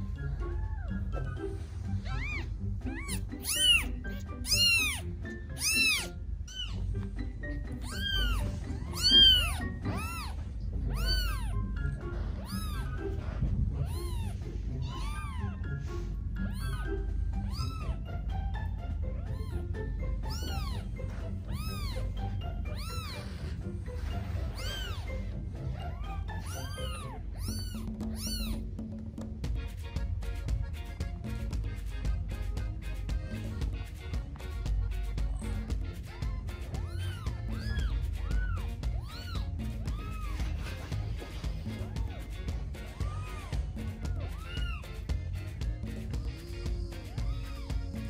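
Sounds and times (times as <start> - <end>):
kittens meowing: 0.0 - 7.0, 7.7 - 18.1, 19.1 - 28.7, 35.2 - 48.0.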